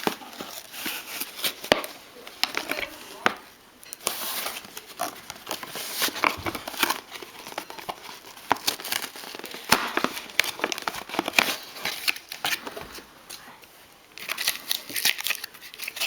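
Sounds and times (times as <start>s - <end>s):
plastic packaging crinkling: 0.0s - 13.4s, 14.1s - 16.0s.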